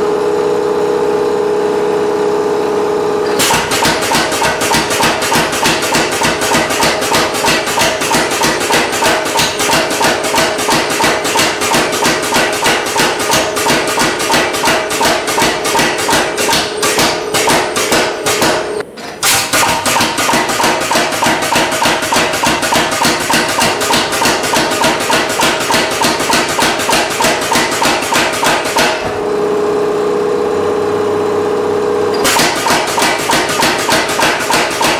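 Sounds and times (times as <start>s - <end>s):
power hammer striking hot steel: 3.2s - 29.2s, 32.1s - 34.9s.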